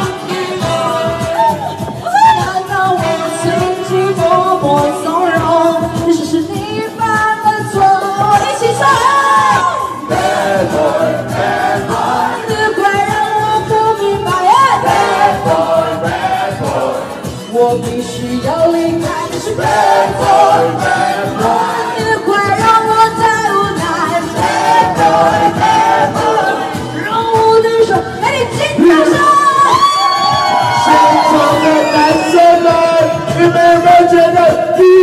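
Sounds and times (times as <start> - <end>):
pop song with sung vocal: 0.0 - 35.0.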